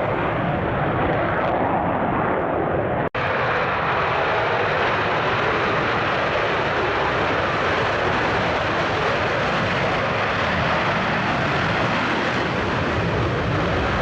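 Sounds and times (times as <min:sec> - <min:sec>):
jet engine running: 0:00.0 - 0:14.0.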